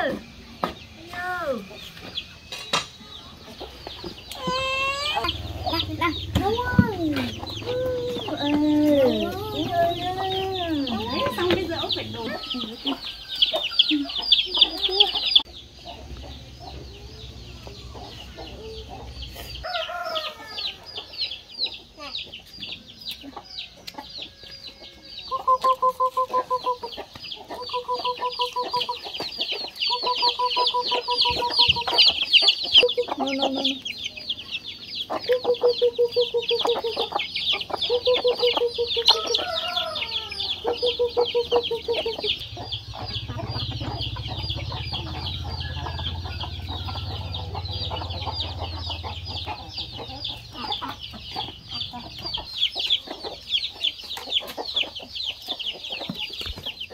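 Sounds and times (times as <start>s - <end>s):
chicks peeping: 0.0s - 56.9s
hen clucking: 0.0s - 56.9s.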